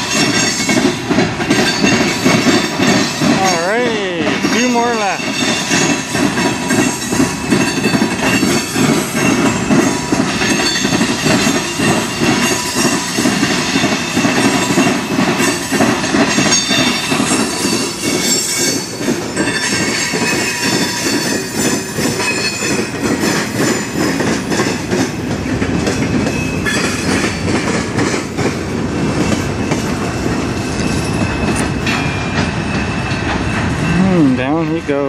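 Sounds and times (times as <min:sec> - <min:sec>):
steel wheels rumbling on rail: 0:00.0 - 0:35.0
wheel clatter over rail joints: 0:00.0 - 0:35.0.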